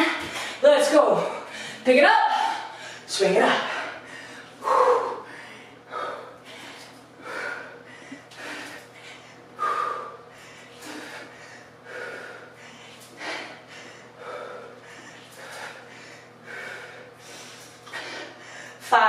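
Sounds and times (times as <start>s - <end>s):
woman breathing hard: 1.3s - 18.9s.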